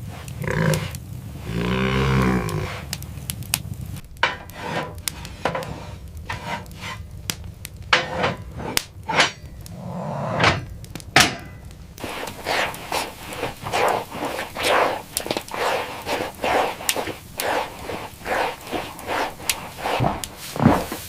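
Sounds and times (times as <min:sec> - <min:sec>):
rustling and rubbing: 0:00.0 - 0:02.9, 0:04.2 - 0:07.2, 0:07.9 - 0:10.7, 0:12.0 - 0:21.0.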